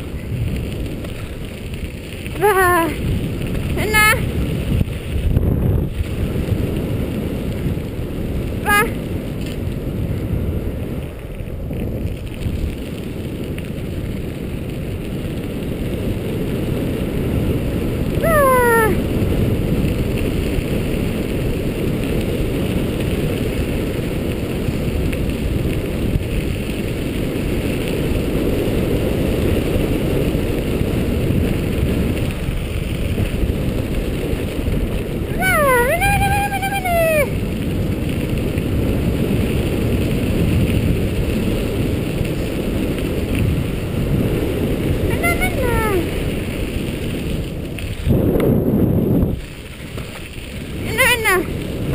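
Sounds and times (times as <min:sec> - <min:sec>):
tyres rolling over gravel: 0:00.0 - 0:51.9
wind on microphone: 0:00.0 - 0:51.9.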